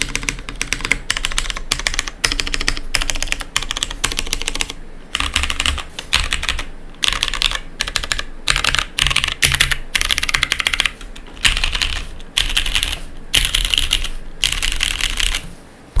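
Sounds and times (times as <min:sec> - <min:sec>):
mechanical keyboard typing: 0:00.0 - 0:15.5.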